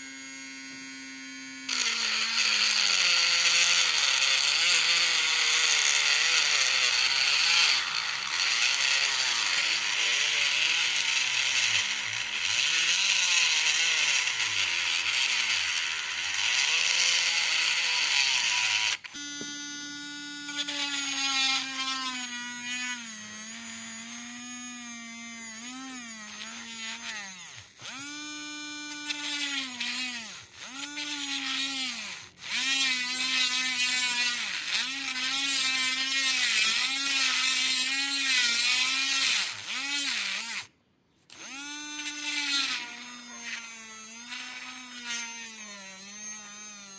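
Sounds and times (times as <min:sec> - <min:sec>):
small motor whining: 0:00.0 - 0:46.9.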